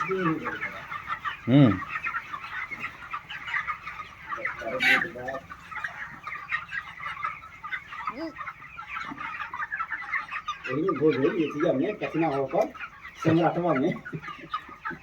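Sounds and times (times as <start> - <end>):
chickens clucking and chirping: 0.0 - 15.0.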